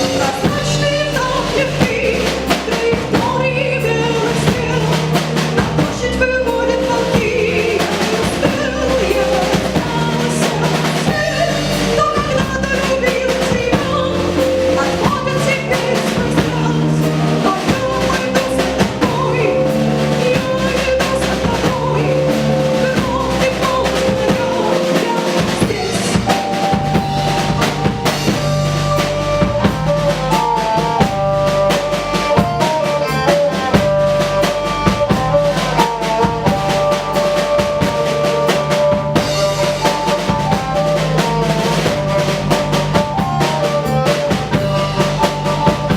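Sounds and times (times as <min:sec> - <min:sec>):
bass: 0:00.0 - 0:45.9
drum kit beat: 0:00.0 - 0:45.9
higher melody line: 0:00.0 - 0:45.9.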